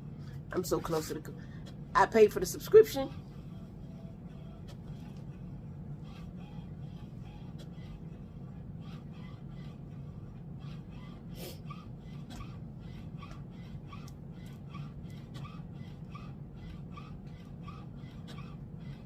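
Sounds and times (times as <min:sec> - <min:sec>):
inkjet printer printing: 0:00.0 - 0:19.0.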